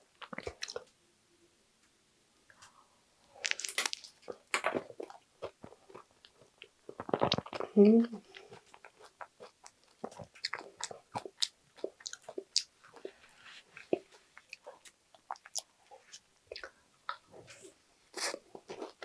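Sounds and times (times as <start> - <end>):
chewing and soft crunching: 0.0 - 1.0, 2.5 - 19.0.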